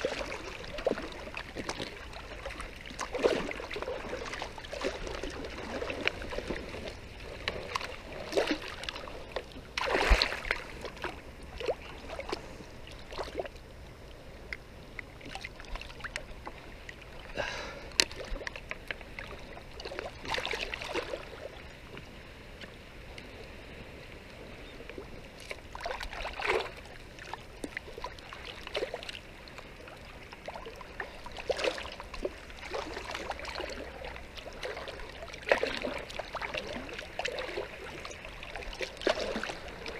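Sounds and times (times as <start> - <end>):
seawater splashing and sloshing: 0.0 - 13.6, 15.0 - 39.9
low steady water wash: 0.0 - 39.9.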